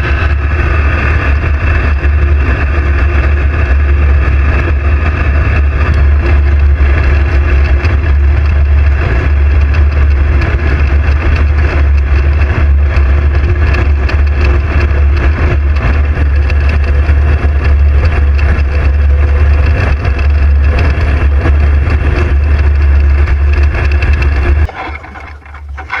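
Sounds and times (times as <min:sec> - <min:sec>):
aircraft engine droning: 0:00.0 - 0:26.0.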